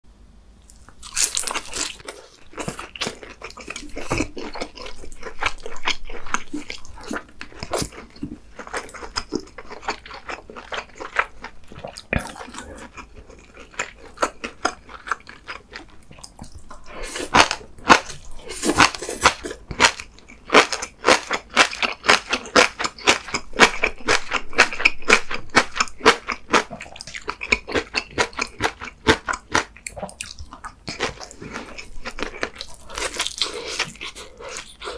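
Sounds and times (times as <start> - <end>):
person chewing and crunching food: 0.6 - 34.9.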